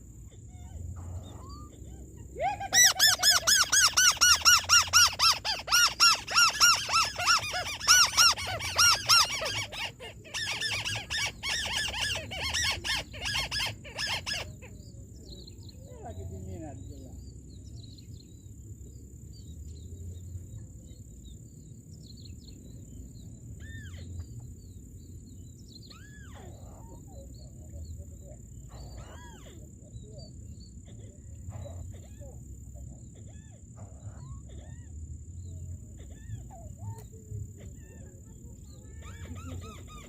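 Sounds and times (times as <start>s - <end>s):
bird calls: 0.0s - 18.6s, 22.1s - 40.0s.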